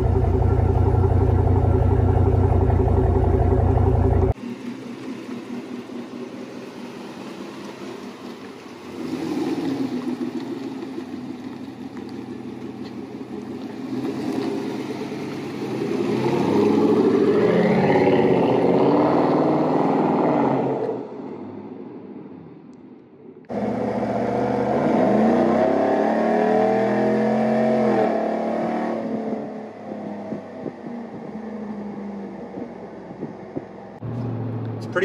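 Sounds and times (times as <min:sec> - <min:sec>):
truck engine idling and revving: 0:00.0 - 0:35.0.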